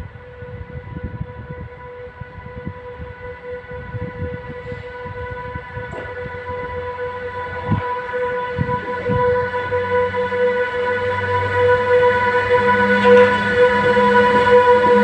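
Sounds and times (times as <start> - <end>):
electric locomotive whine: 0.0 - 15.0.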